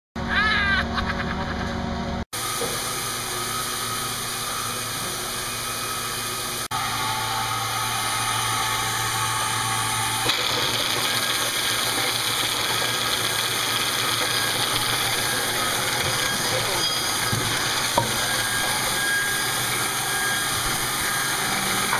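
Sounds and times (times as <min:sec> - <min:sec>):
sawmill machinery running: 0:00.6 - 0:21.9.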